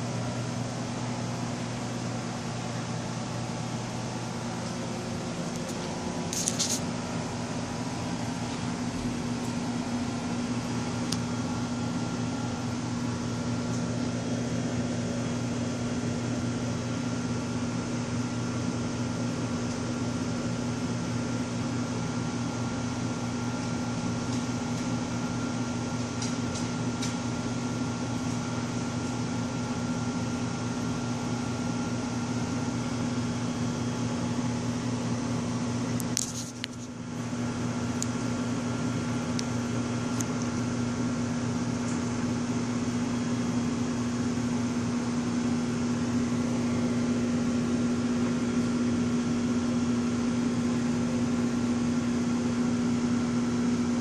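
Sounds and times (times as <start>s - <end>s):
aquarium pumps humming: 0.0s - 54.0s.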